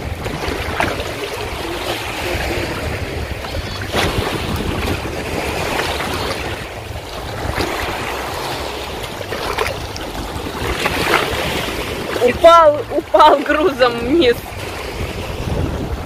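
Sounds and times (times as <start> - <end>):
waves washing against shore: 0.0 - 16.0
wind buffeting microphone: 0.0 - 16.0.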